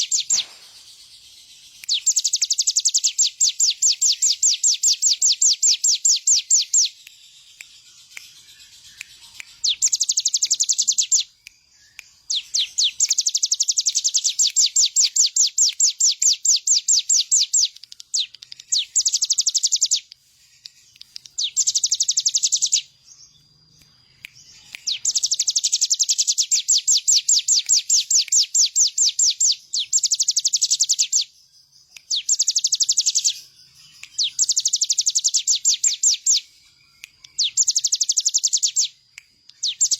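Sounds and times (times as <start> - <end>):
bird singing high trills: 0.0 - 39.0, 39.6 - 39.9.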